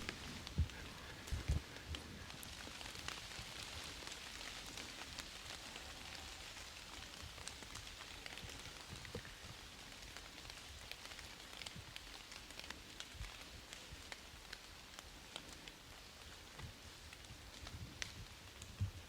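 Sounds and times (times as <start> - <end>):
light rain on leaves: 0.0 - 19.0.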